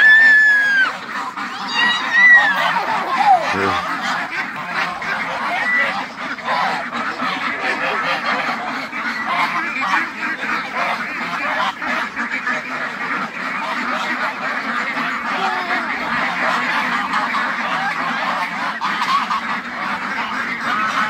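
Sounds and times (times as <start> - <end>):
ducks and geese quacking honking: 0.0 - 21.0.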